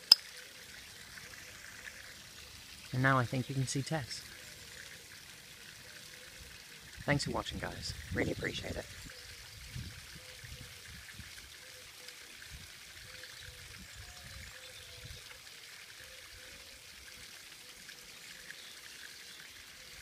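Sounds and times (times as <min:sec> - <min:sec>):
small waterfall trickling over rocks: 0:00.0 - 0:20.0.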